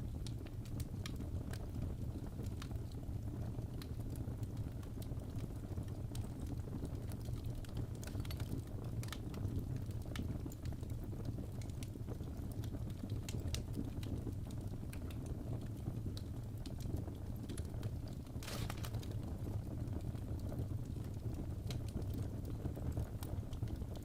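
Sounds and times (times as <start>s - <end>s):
fire crackling with snaps and pops: 0.0s - 24.0s
low rumble of burning fire: 0.0s - 24.0s.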